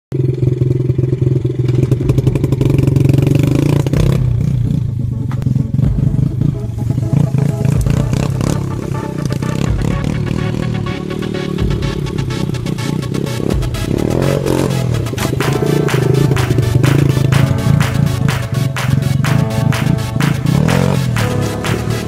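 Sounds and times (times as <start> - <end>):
atv engine revving: 0.1 - 22.0.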